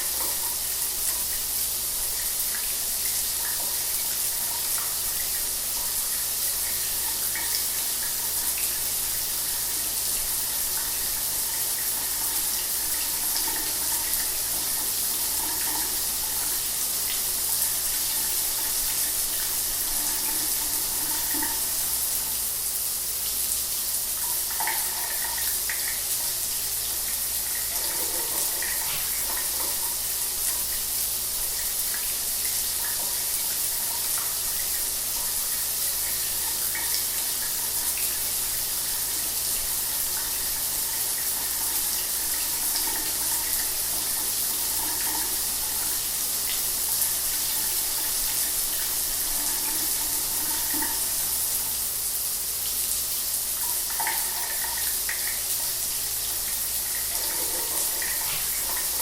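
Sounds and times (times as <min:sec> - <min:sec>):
shower water running: 0:00.0 - 0:59.0.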